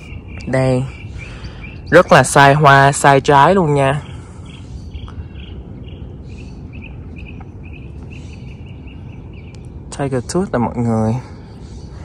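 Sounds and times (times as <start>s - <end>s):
low outdoor background rumble: 0.0s - 12.0s
small bird chirping: 0.0s - 12.0s.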